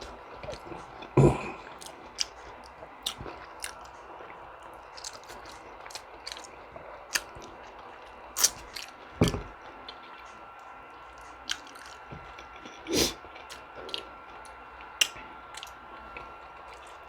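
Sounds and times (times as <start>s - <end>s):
close chewing with mouth clicks: 0.0s - 17.0s.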